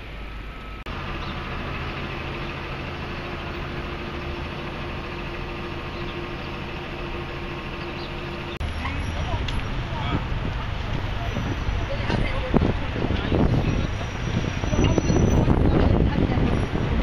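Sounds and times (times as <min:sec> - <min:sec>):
city street noise: 0:00.0 - 0:17.0
engine idling: 0:00.0 - 0:17.0.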